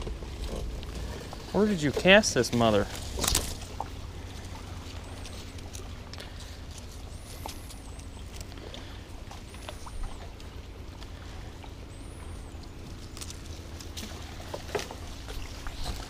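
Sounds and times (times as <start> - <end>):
branches rustling and crackling: 0.0 - 16.0
steady low hum: 0.0 - 16.0.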